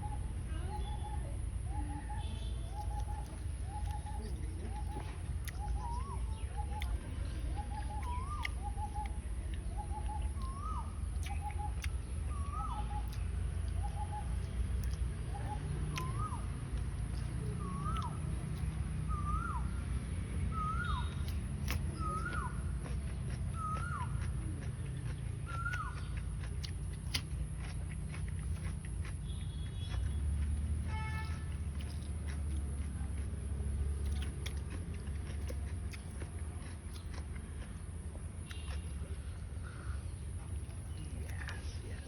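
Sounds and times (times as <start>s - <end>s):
birds calling: 0.0s - 32.2s, 36.9s - 42.0s.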